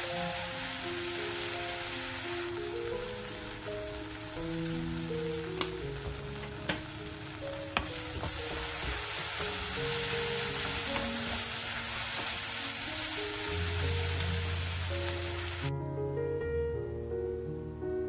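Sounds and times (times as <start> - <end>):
food sizzling in a wok: 0.0 - 15.7.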